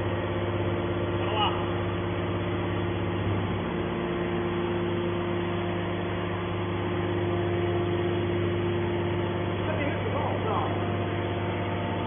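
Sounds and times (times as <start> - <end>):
hydraulic pump motor hum: 0.0 - 12.0.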